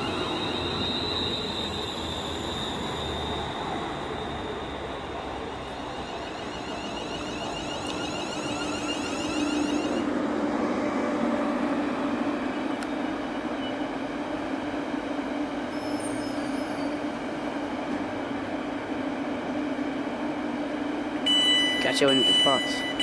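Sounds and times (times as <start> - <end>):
electric train whining: 0.0 - 23.0
train humming: 0.0 - 23.0.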